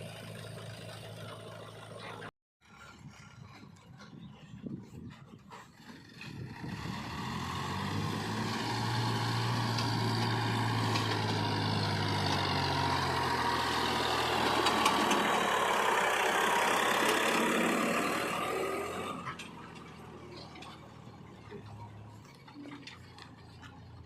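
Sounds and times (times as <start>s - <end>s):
heavy diesel engine running: 0.0s - 4.6s, 5.5s - 24.0s.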